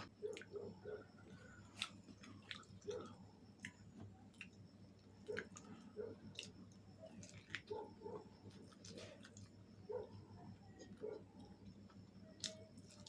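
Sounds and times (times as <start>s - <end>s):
chewing with mouth smacks: 0.0s - 13.0s.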